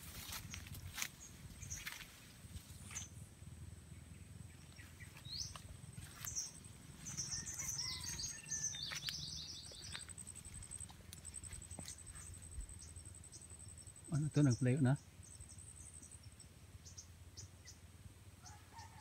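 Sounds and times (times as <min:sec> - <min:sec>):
small birds chirping: 0:00.0 - 0:03.2, 0:03.9 - 0:18.6.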